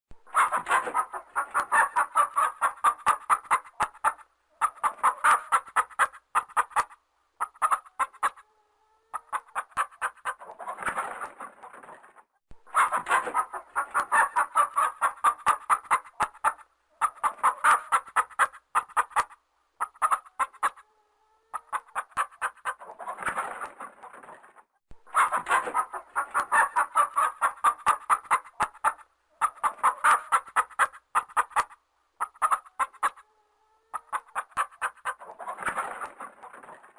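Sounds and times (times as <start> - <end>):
hens clucking: 0.3 - 8.5, 9.1 - 20.9, 21.5 - 36.9.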